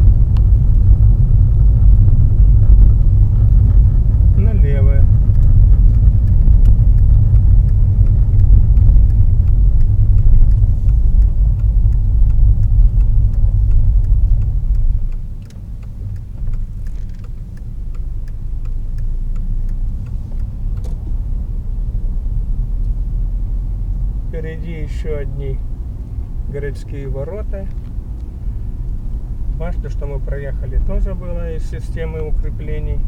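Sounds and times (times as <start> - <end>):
car engine rumble: 0.0 - 33.0
road noise: 0.0 - 33.0.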